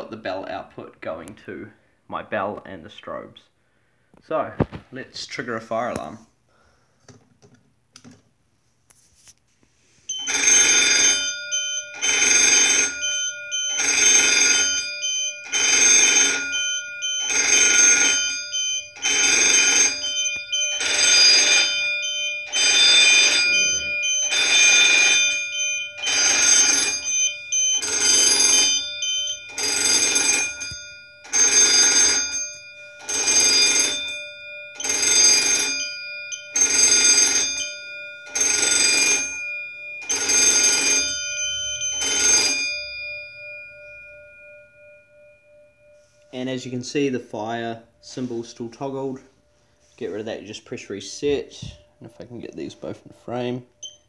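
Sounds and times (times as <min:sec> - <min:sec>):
fire alarm bell ringing: 0:10.1 - 0:54.0.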